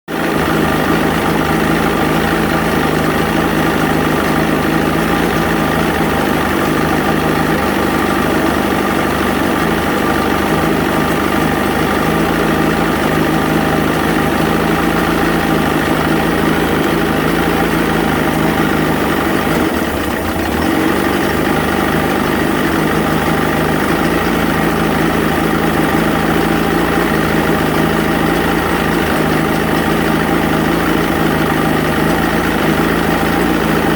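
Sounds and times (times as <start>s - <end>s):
outboard motor running: 0.1s - 33.9s.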